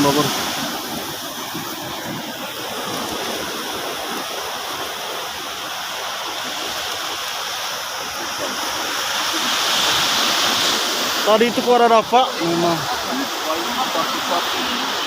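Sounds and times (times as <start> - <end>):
surf washing on shore: 0.0 - 15.0.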